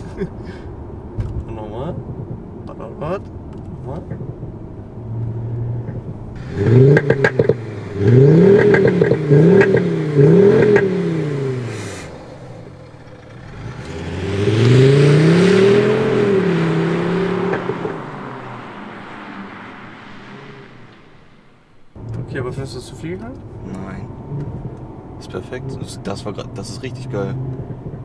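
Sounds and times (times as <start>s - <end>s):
exhaust pops crackling: 1.1s - 28.0s.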